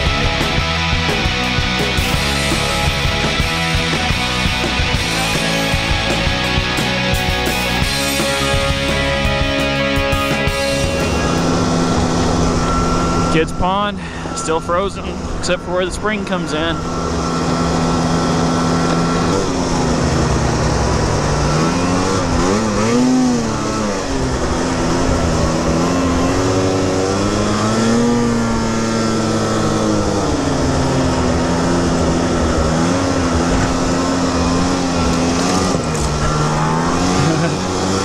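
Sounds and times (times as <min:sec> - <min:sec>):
snowmobile engine revving: 0:00.0 - 0:38.0
steady rushing noise: 0:00.0 - 0:38.0.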